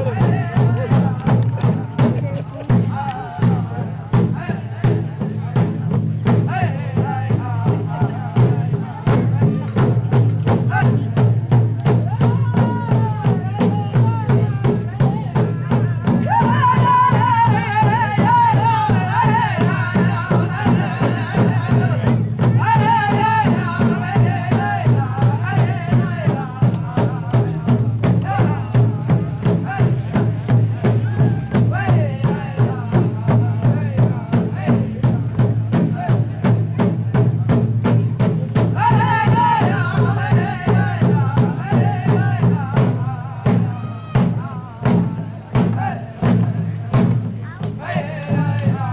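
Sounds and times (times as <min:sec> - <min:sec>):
voices singing high bending notes: 0:00.0 - 0:36.8, 0:37.9 - 0:48.9
hand drum beaten steadily: 0:00.0 - 0:48.9.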